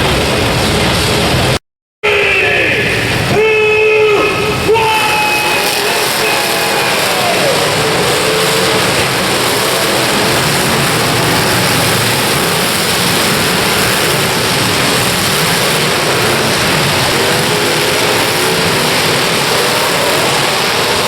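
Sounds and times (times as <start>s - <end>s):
car engines running together: 0.0s - 1.6s, 4.4s - 21.0s.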